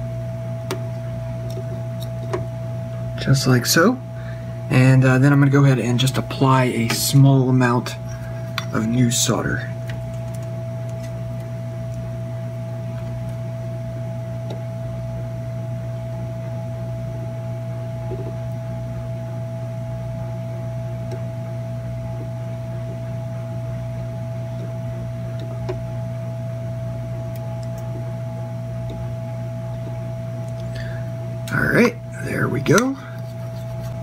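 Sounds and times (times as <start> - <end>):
electrical hum with high tone: 0.0 - 34.0.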